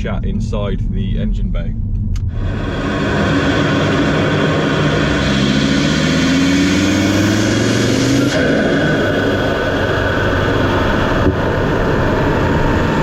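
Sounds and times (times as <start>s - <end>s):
car engine accelerating hard: 2.2s - 13.0s.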